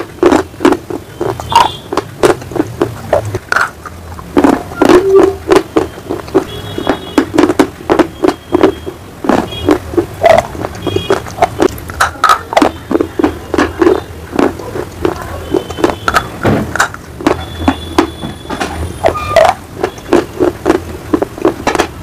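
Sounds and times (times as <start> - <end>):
biting and chewing crunches: 0.0 - 22.0.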